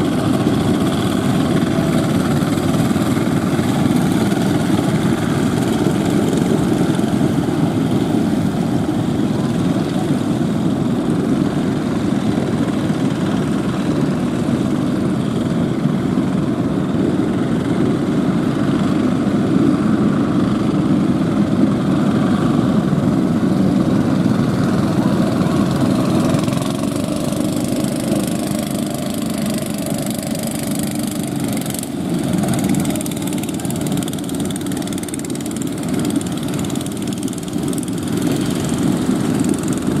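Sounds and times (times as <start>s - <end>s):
boat motors running: 0.0s - 40.0s.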